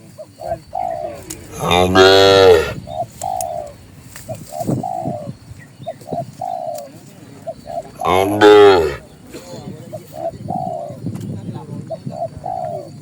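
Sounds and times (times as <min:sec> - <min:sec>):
dove cooing: 0:00.4 - 0:06.8, 0:07.4 - 0:11.1, 0:11.9 - 0:13.0.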